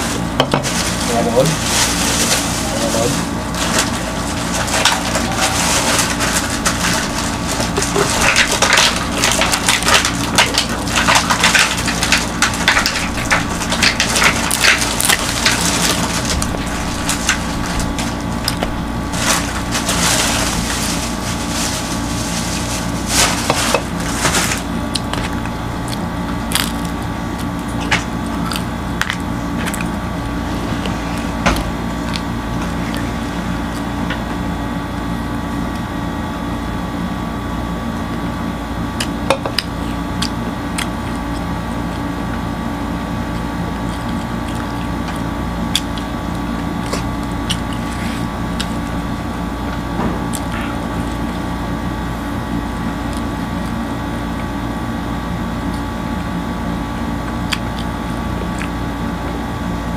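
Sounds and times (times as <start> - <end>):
steady low hum: 0.0 - 59.9
crunchy food being chewed: 3.2 - 36.0, 37.4 - 59.9.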